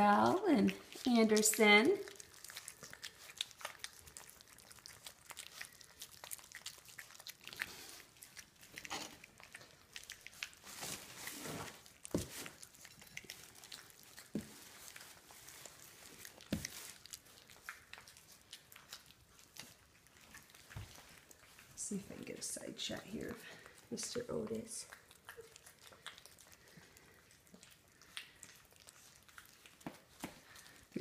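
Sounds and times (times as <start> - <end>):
puppies chewing wet food: 0.0 - 31.0.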